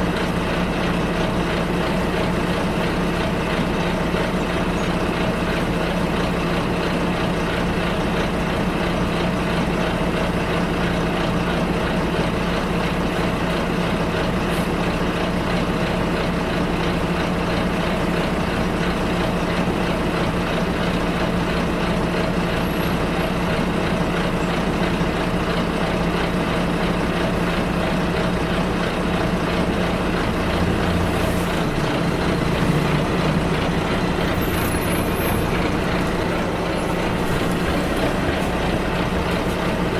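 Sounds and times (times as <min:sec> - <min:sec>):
bus engine: 0:00.0 - 0:39.9
road noise: 0:00.0 - 0:39.9.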